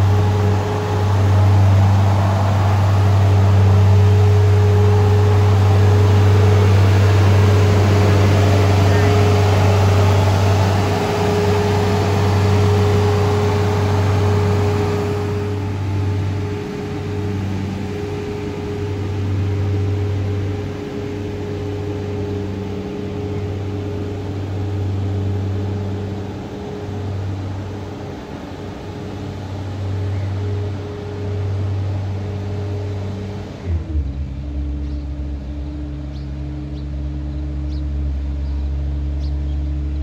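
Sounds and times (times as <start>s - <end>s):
engine running with low hum: 0.0s - 40.0s.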